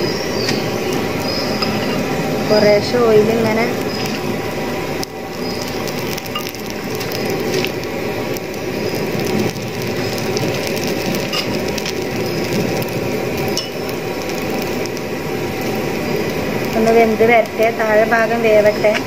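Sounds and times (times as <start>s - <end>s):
flatbread sizzling in oil: 0.0s - 19.0s.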